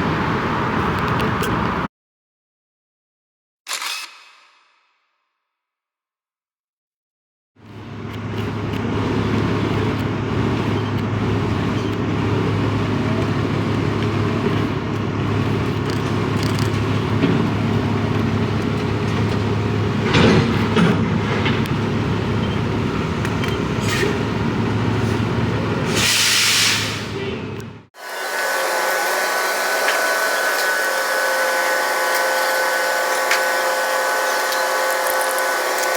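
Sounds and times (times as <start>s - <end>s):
diesel engine running: 0.0s - 1.9s, 7.6s - 35.9s.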